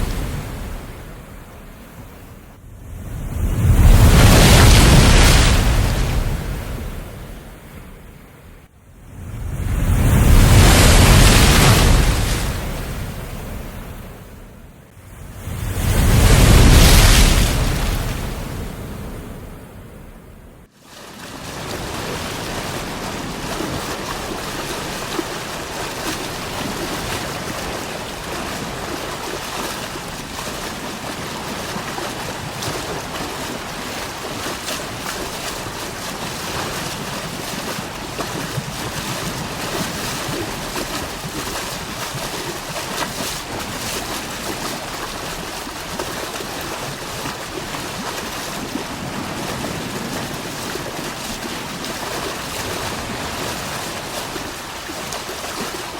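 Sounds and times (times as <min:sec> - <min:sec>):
rushing churning water: 0:00.0 - 0:07.6, 0:09.2 - 0:14.2, 0:15.0 - 0:19.3, 0:20.6 - 0:55.9
crackles and splashes: 0:03.3 - 0:07.6, 0:09.4 - 0:14.0, 0:15.6 - 0:19.0, 0:20.6 - 0:55.9.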